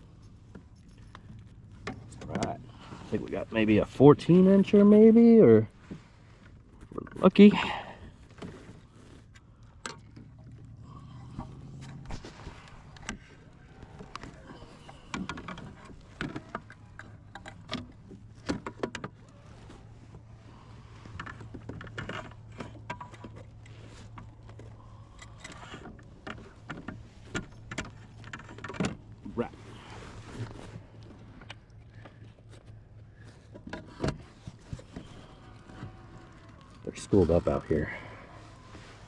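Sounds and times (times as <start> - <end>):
gear clattering on plastic kayak: 0.0 - 39.0.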